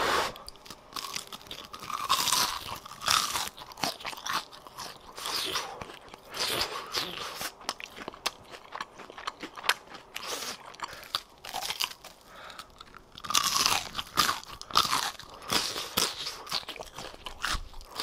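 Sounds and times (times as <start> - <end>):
crunching fried food: 0.4 - 18.0.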